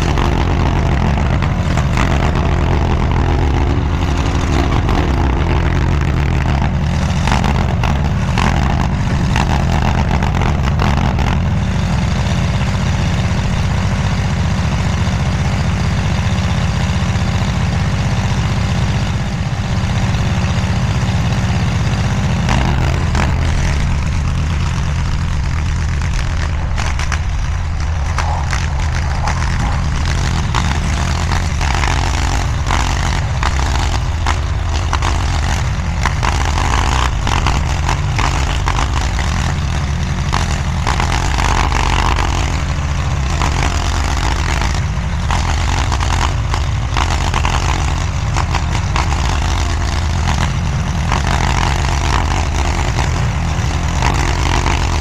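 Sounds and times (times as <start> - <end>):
mini skid steer engine running: 0.0 - 55.0.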